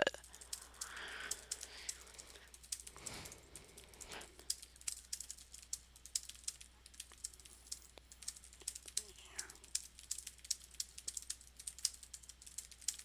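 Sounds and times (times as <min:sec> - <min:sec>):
fast keyboard typing: 0:00.2 - 0:13.0.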